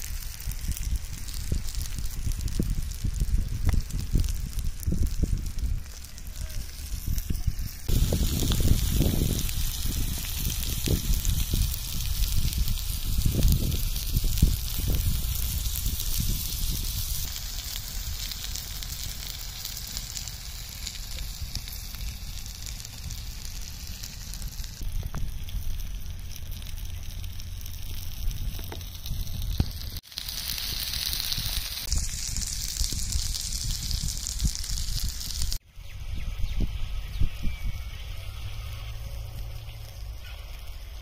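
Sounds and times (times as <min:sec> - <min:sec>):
chicken sizzling on hot stone: 0:00.0 - 0:41.0.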